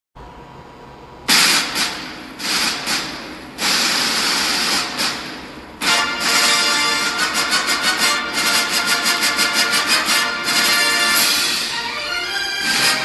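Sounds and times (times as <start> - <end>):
loud hissing noise bursts: 1.3 - 13.0
music: 1.6 - 13.0.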